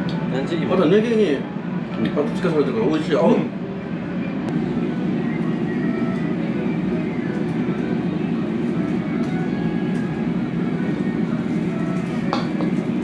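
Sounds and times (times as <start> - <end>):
ventilation fan rumble: 0.0 - 13.0.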